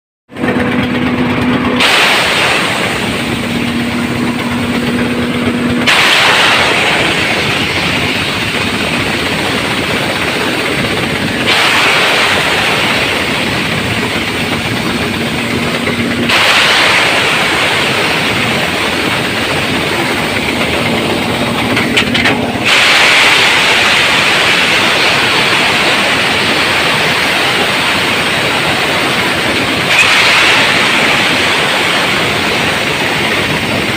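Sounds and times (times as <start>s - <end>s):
wood chipper engine hum: 0.3s - 33.9s
wood chipper grinding: 0.3s - 33.9s.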